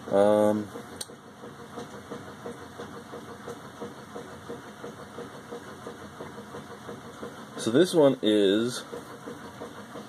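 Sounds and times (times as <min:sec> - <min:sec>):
machine running: 0:00.0 - 0:10.0.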